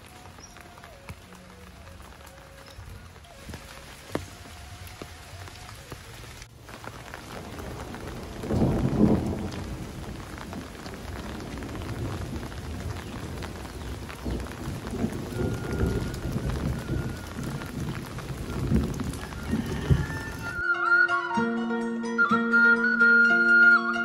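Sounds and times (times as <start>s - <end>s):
rain falling on foliage: 0.0s - 20.6s.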